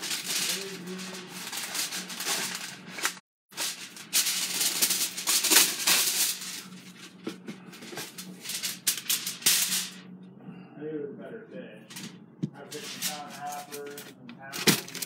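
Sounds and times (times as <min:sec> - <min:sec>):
kitchen wrap crumpling: 0:00.0 - 0:10.0, 0:11.9 - 0:15.0
steady low hum: 0:00.0 - 0:15.0.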